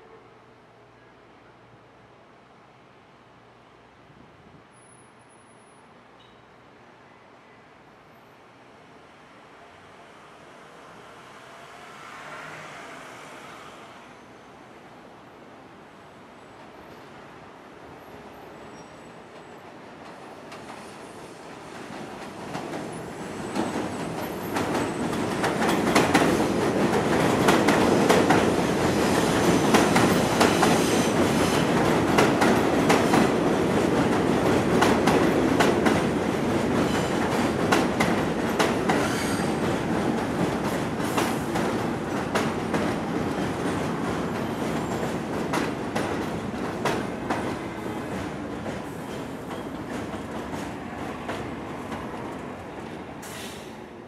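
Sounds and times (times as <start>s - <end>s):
subway train rumble: 0.0s - 54.0s.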